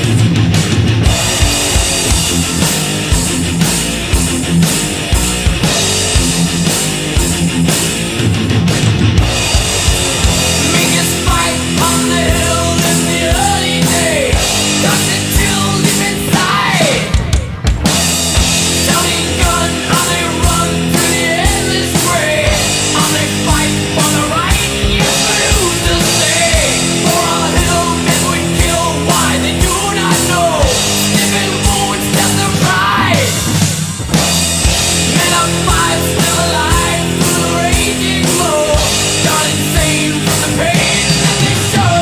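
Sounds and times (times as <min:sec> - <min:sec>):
drum kit playing: 0:00.0 - 0:42.0
rock song with singing: 0:00.0 - 0:42.0.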